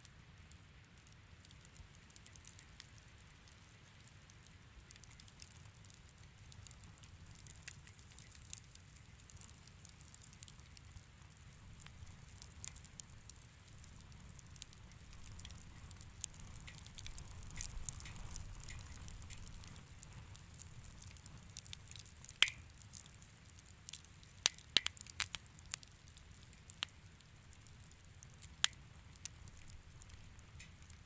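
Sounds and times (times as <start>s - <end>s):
fire crackling in a fireplace: 0.0s - 31.0s.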